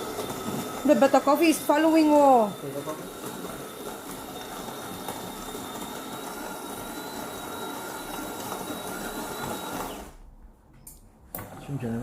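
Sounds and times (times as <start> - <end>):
coffee machine whirring: 0.0 - 10.3, 11.4 - 12.0.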